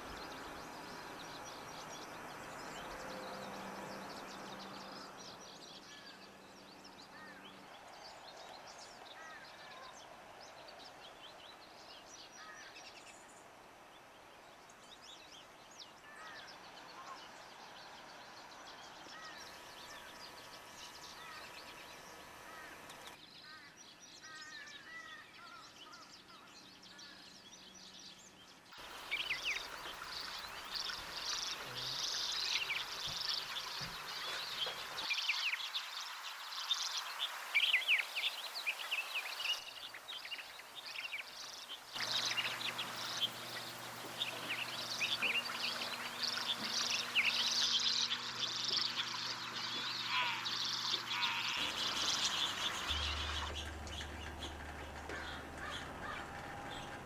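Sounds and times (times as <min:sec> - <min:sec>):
small birds chirping chorus: 0:00.0 - 0:57.0.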